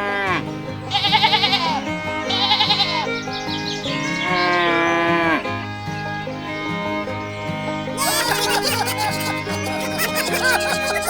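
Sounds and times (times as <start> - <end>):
background music with low notes: 0.0 - 11.0
bleating calls: 0.0 - 11.0.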